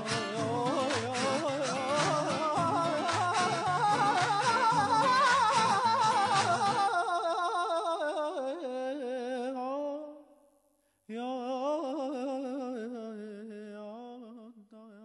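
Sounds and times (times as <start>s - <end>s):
person singing with vibrato: 0.0s - 10.5s, 11.1s - 15.0s.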